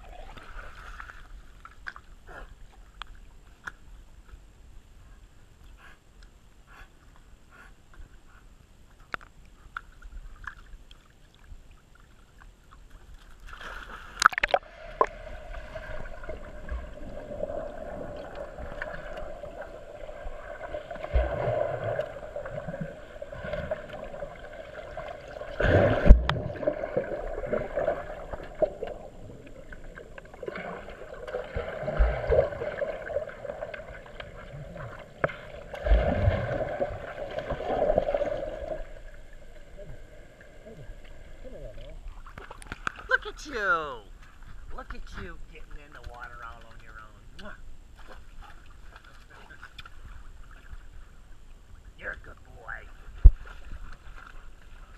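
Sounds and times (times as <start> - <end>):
muffled underwater splashing: 9.5 - 54.9.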